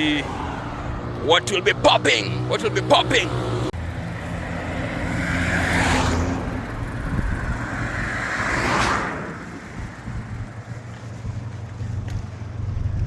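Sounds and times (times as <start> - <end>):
low engine and road rumble: 0.0 - 13.0
vehicles whooshing past: 0.0 - 13.0.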